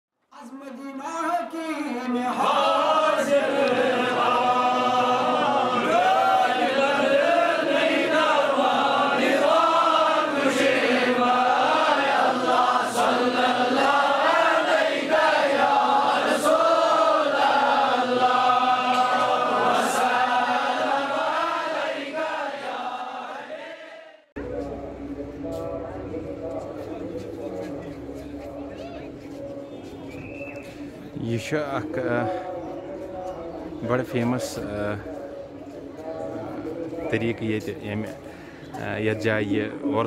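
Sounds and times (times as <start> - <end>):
voices chanting devotional song: 1.1 - 40.0.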